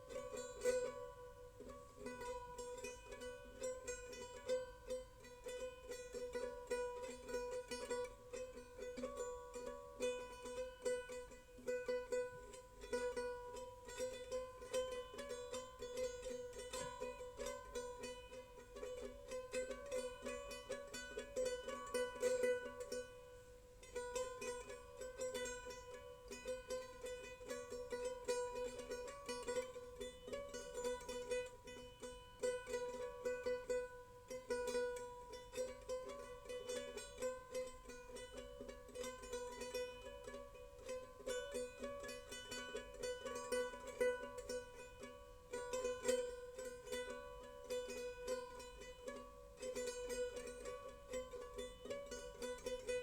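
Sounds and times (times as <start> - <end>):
bright plucked-string tune: 0.0 - 53.0.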